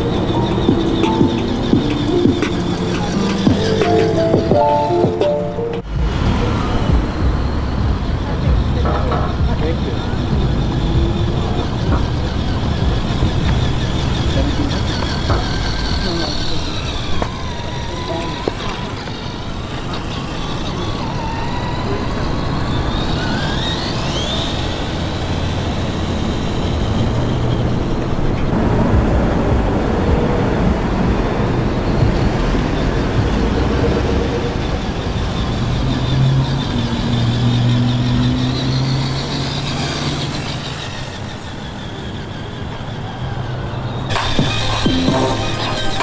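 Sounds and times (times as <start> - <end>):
engine sound effect drone: 0.0 - 46.0
rising whine: 0.0 - 46.0.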